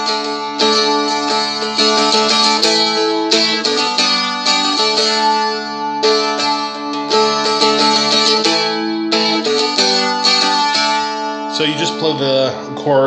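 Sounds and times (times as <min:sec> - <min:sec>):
stick dulcimer strumming chords: 0:00.0 - 0:13.0.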